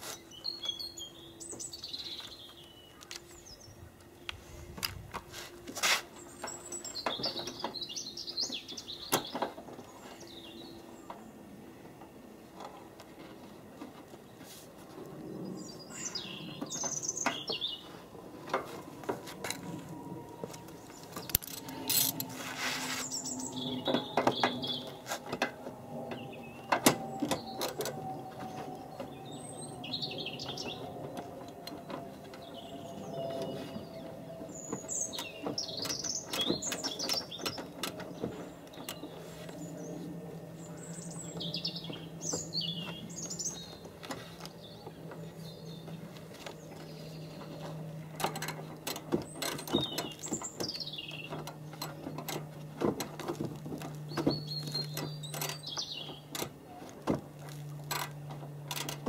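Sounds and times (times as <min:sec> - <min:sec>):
small birds chirping: 0:00.2 - 0:04.5, 0:06.2 - 0:11.4, 0:14.2 - 0:18.8, 0:20.2 - 0:56.9.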